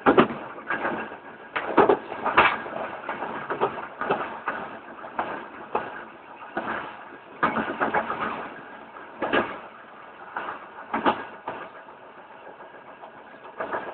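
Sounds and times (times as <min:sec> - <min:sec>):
train running noise: 0:00.0 - 0:13.9
train wheels clacking on rail joints: 0:00.0 - 0:13.9.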